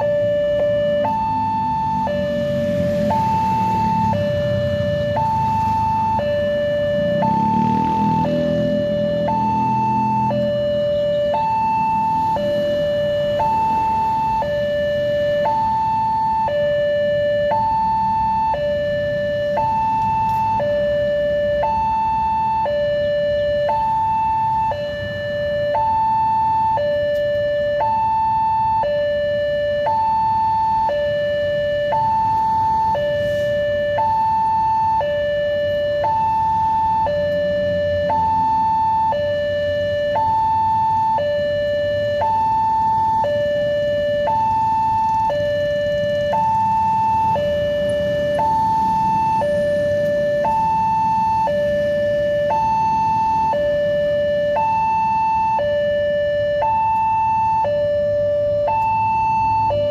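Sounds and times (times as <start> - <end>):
level crossing two-tone alarm: 0.0 - 59.9.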